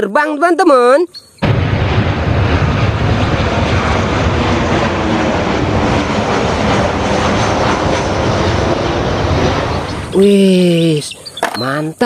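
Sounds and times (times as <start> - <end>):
jet engines of low-flying airliner: 1.1 - 12.0.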